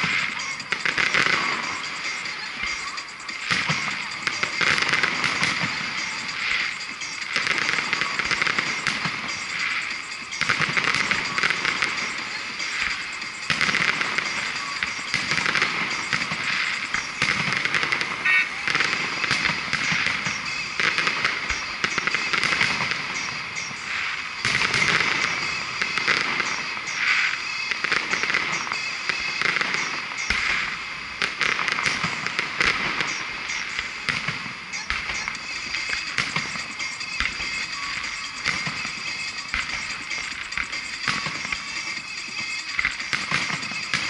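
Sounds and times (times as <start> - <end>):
firework pops and crackles: 0.0 - 44.0
heavy firework bangs: 0.0 - 44.0.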